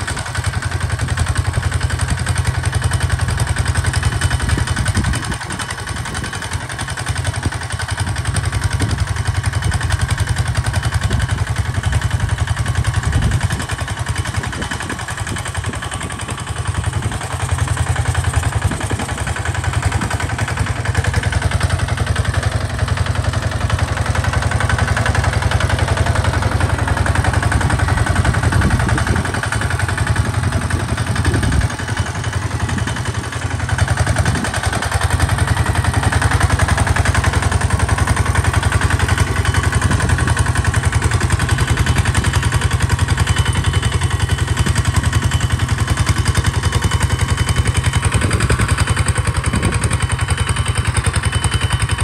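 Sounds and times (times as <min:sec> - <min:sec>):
diesel tractor engine running: 0:00.0 - 0:52.0.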